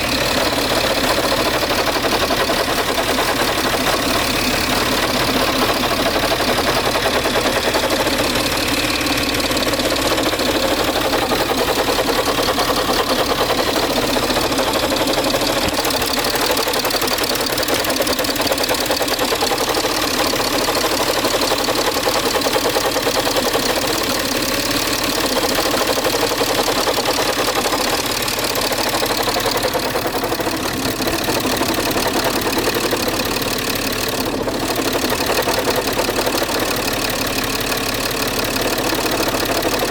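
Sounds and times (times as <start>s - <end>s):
diesel engine running: 0.0s - 39.9s
engine grinding noise: 0.0s - 39.9s.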